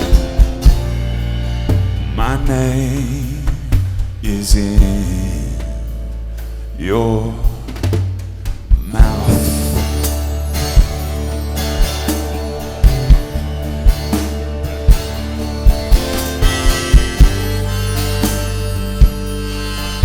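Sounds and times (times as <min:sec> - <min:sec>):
bass guitar low notes: 0:00.0 - 0:20.0
drum kit: 0:00.0 - 0:20.0
guitars: 0:00.0 - 0:20.0.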